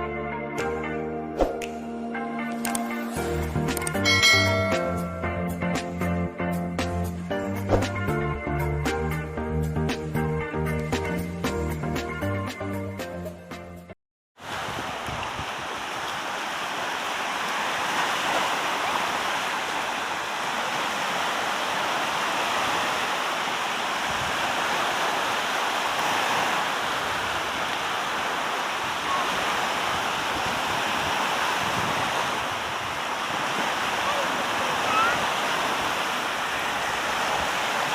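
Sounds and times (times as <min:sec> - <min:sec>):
sea water and surf rushing: 0:00.7 - 0:08.3, 0:14.4 - 0:37.9.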